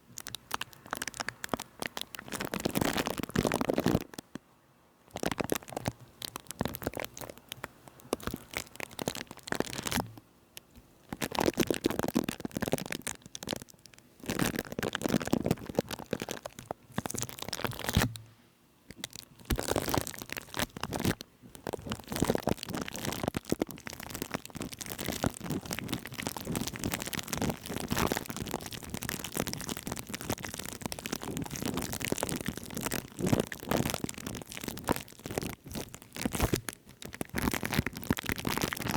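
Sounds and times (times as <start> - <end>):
crackling and crunching at microphone: 0.0 - 4.5, 5.1 - 38.9.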